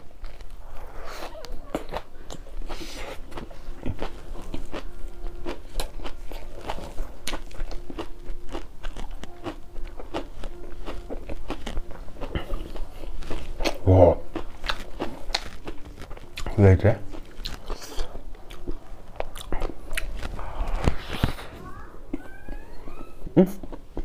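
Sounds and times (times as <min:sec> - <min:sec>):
person chewing crunchy greens: 0:00.0 - 0:22.7, 0:23.4 - 0:24.0.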